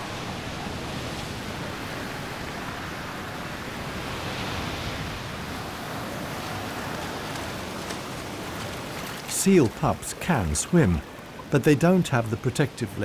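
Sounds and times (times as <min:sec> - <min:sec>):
surf breaking over rocks: 0:00.0 - 0:12.1.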